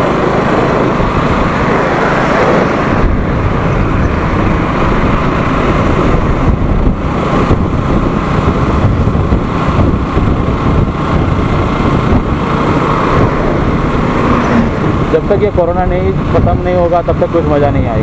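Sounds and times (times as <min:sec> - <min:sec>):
motorcycle engine: 0:00.0 - 0:18.0
wind rushing over microphone: 0:00.0 - 0:18.0.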